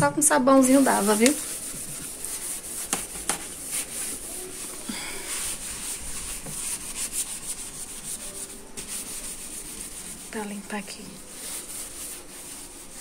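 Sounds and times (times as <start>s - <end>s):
sponge rubbing a surface: 0.6s - 13.0s.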